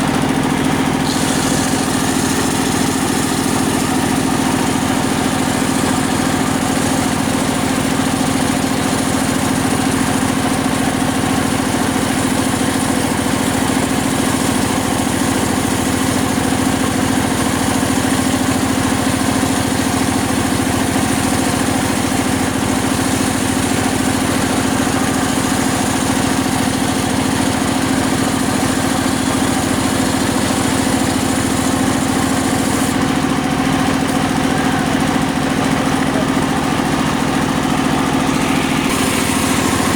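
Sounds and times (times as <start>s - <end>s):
circular saw running: 0.0s - 39.9s.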